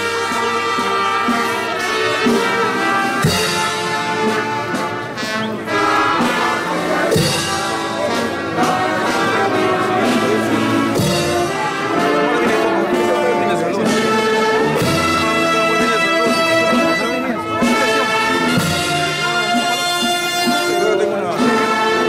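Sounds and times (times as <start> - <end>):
brass band playing march: 0.0 - 22.0.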